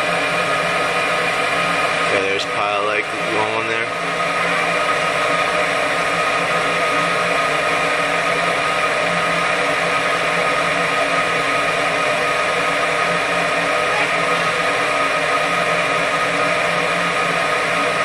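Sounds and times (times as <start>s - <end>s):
furnace fan motor whirring: 0.0s - 18.0s.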